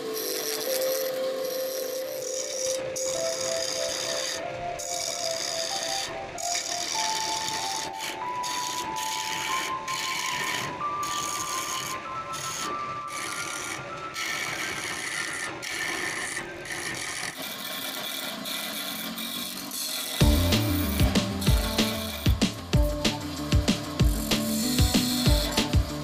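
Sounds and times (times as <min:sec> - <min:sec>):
tool scraping wood on lathe: 0:00.0 - 0:26.0.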